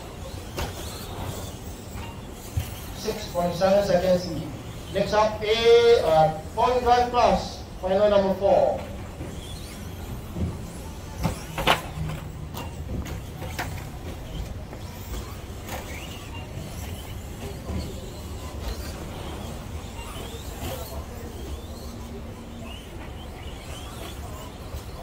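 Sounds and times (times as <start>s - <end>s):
electric motors whining: 0.0s - 25.0s.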